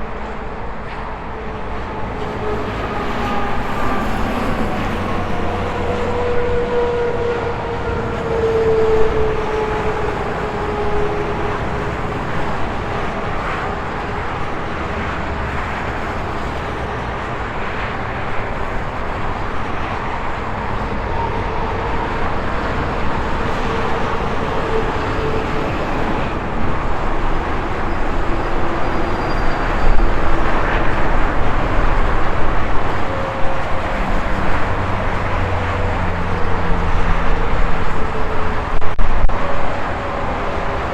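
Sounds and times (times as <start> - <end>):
heavy vehicle rumbling: 0.0 - 40.9
highway traffic passing: 0.0 - 40.9.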